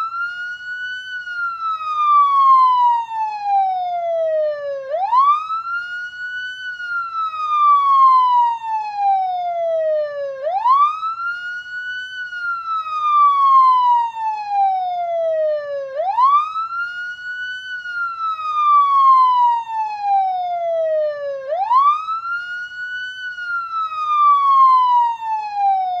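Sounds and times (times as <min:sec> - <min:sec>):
police siren wailing: 0:00.0 - 0:26.0.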